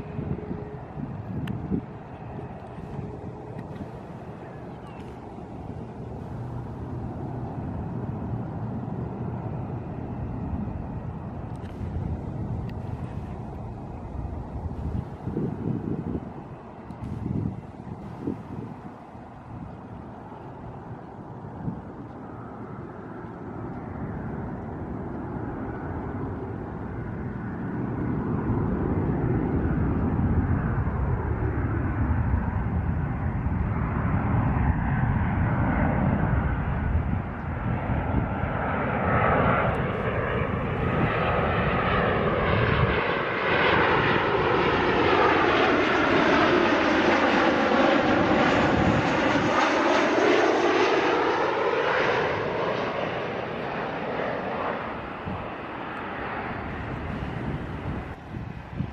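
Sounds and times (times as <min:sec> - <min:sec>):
jet airliner flying overhead: 0:00.0 - 0:58.9.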